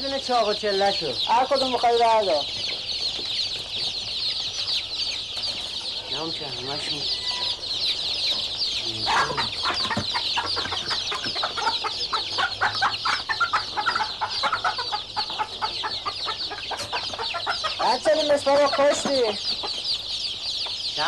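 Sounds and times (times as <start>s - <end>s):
hens clucking and squawking: 0.0s - 21.0s
small birds chirping: 0.0s - 21.0s.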